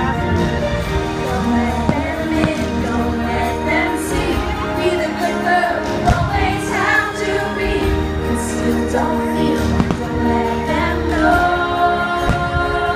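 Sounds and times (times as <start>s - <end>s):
music with singing and choir: 0.0s - 12.9s.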